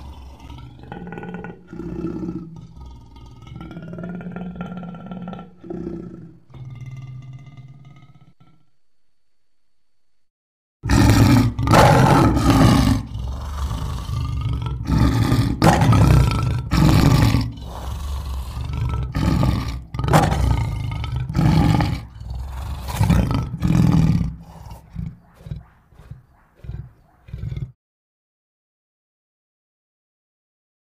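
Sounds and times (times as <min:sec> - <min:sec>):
lion grunting: 0:00.0 - 0:08.7, 0:10.8 - 0:27.8
lion roaring: 0:00.0 - 0:08.7, 0:10.8 - 0:27.8.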